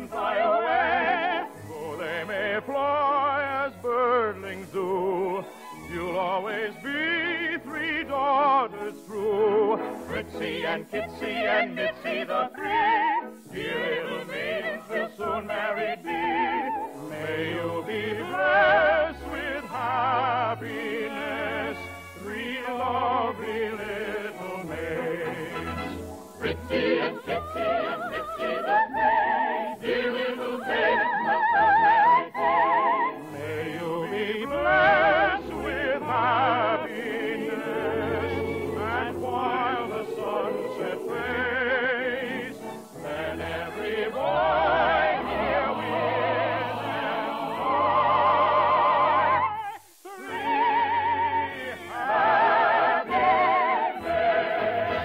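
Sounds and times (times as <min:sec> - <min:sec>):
operetta singing: 0:00.0 - 0:55.0
orchestral accompaniment: 0:00.1 - 0:55.0.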